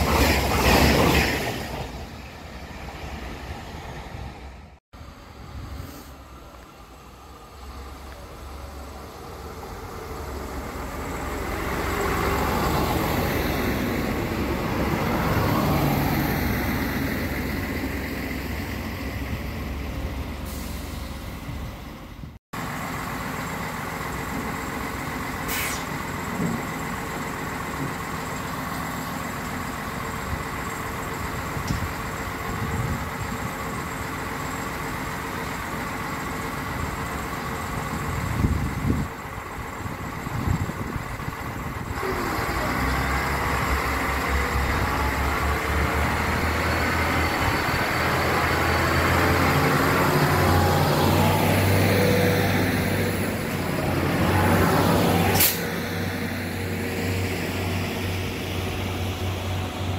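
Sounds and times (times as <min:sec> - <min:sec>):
diesel railcar arriving: 0:00.0 - 0:59.9
diesel railcar idling: 0:00.0 - 0:59.9.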